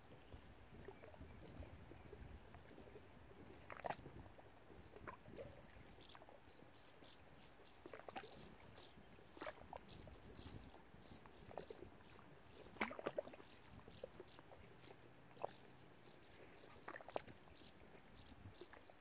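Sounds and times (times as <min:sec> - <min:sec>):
water washing at shore: 0:02.2 - 0:06.6, 0:07.6 - 0:19.0.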